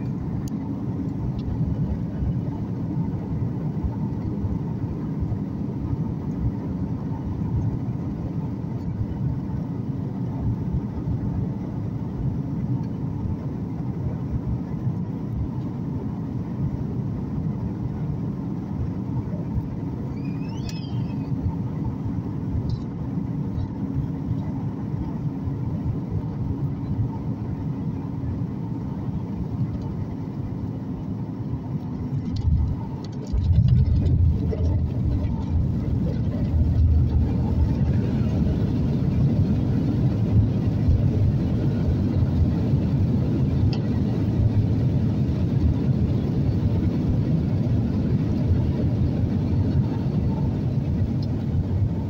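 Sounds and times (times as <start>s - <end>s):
airplane cabin noise: 0.0s - 52.0s
deep rumble of wheels on runway: 0.0s - 52.0s.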